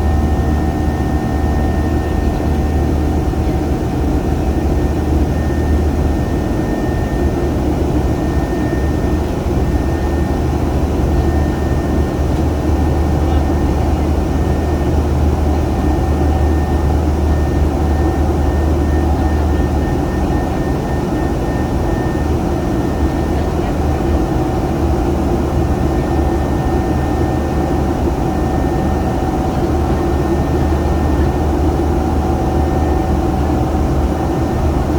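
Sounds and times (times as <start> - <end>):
airliner cabin engine drone: 0.0 - 34.9.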